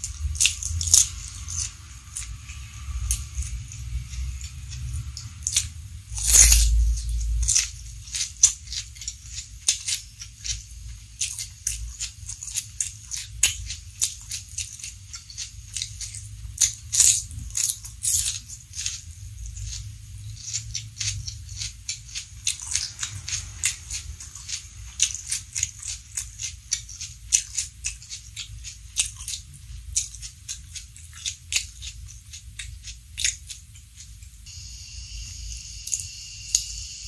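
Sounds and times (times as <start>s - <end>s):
wet mouth clicks: 0.0s - 34.4s
chewing crunchy vegetables: 0.0s - 34.5s, 35.8s - 36.7s.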